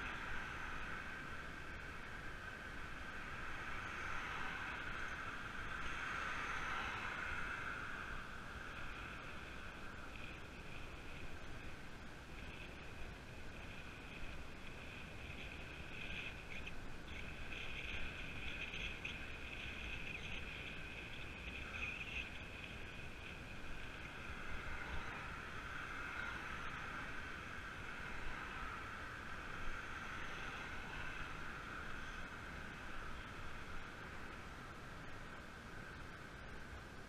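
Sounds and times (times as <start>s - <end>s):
bike tyres rolling on tarmac: 0.0s - 37.0s
rushing wind: 0.0s - 37.0s.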